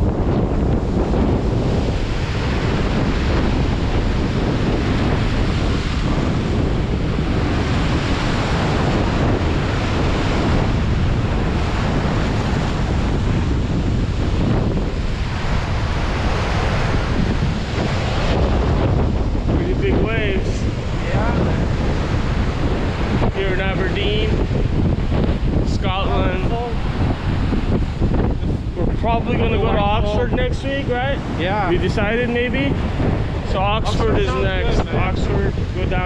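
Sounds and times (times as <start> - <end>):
sea waves breaking on beach: 0.0 - 36.0
wind rumbling on microphone: 0.0 - 36.0.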